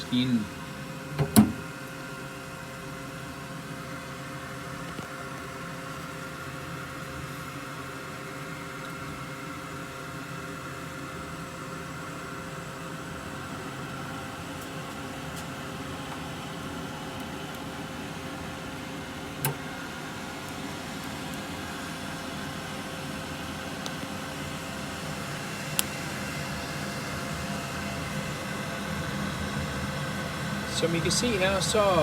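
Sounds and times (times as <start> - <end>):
laser machine whirring hum: 0.0 - 32.0.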